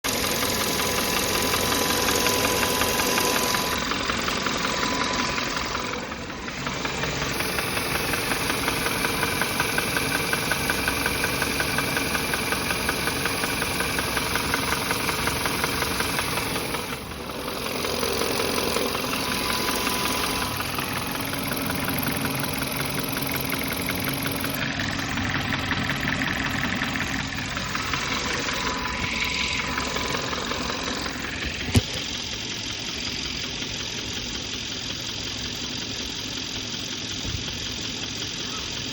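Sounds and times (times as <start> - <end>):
engine knocking: 0.0 - 38.9.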